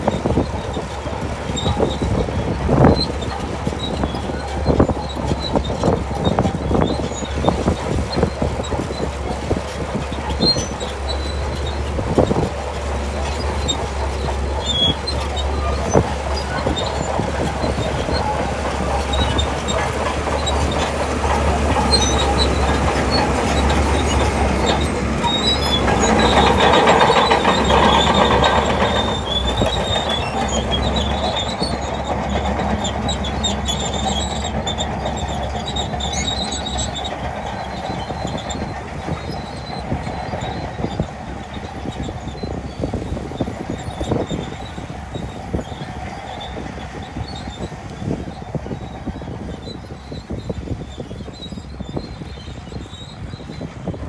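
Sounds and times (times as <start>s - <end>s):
bulldozer diesel engine running: 0.0s - 54.0s
steel tracks squealing and clanking: 0.0s - 54.0s.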